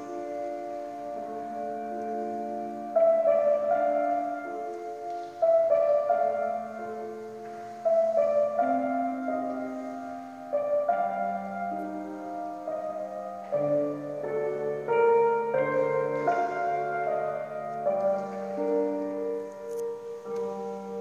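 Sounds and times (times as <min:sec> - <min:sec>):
slow gentle piano chords: 0:00.0 - 0:21.0.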